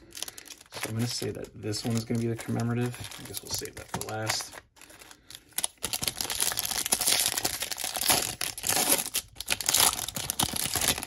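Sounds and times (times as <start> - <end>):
wrapper tearing and crinkling: 0.0 - 11.0.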